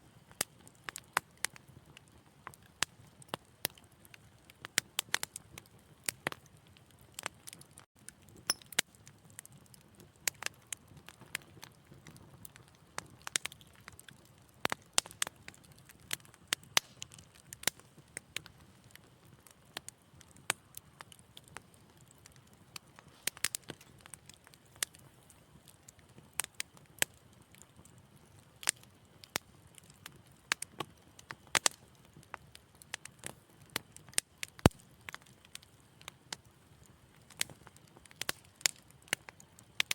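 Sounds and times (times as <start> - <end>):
low hiss of burning: 0.0 - 39.9
wood fire crackling: 0.0 - 39.9
fire pops and snaps: 0.2 - 39.9.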